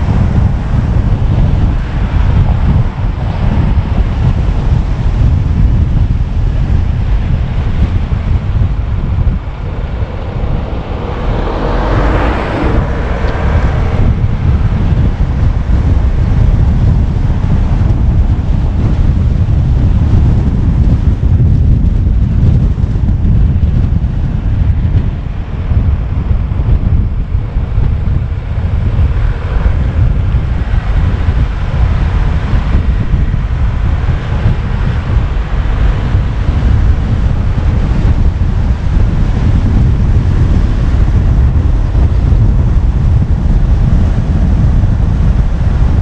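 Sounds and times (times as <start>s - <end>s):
car road noise: 0.0s - 46.0s
wind buffeting microphone: 0.0s - 46.0s.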